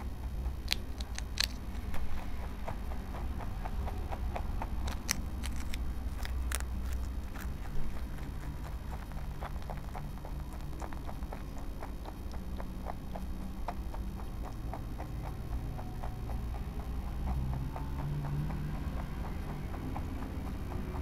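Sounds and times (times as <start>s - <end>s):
rabbit crunching a chip: 0.0s - 21.0s.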